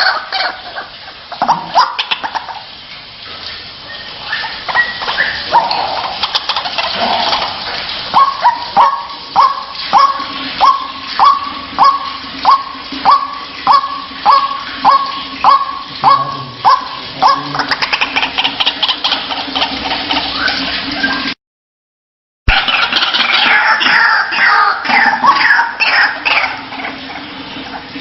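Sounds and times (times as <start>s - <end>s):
waterhen calling: 0.0s - 21.4s, 22.5s - 28.0s.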